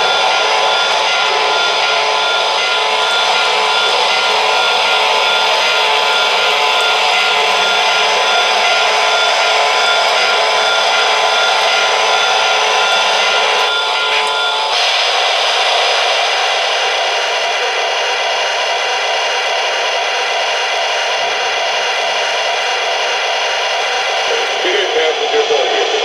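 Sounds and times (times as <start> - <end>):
model train rushing noise: 0.0 - 26.0.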